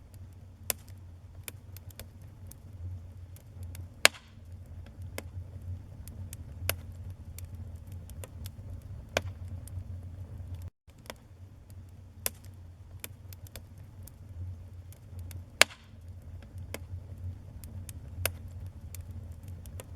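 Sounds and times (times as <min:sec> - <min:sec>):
wood fire crackling: 0:00.0 - 0:19.9
sharp pops from fire: 0:00.1 - 0:19.9.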